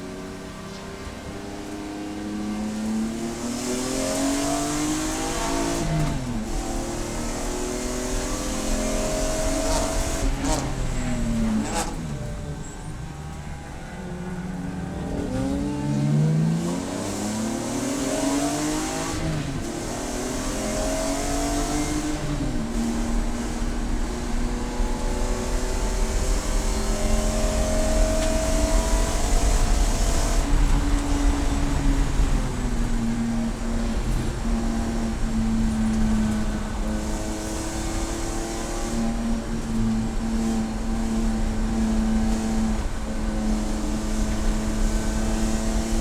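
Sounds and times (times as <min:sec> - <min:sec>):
race car engine accelerating: 0:00.0 - 0:46.0.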